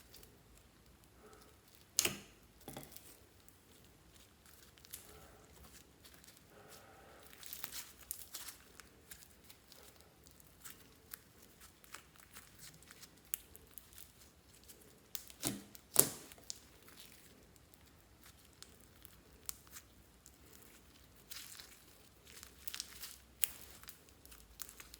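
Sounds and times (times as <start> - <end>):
slime crackling and popping: 0.0 - 24.9.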